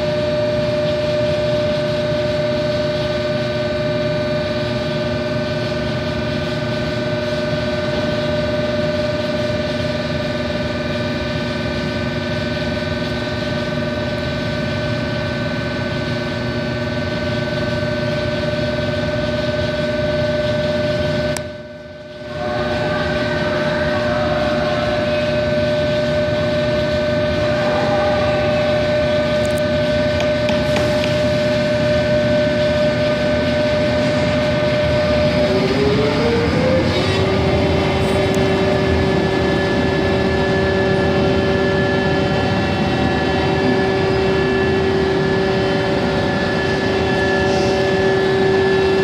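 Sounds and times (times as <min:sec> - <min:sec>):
electric train humming: 0:00.0 - 0:49.0.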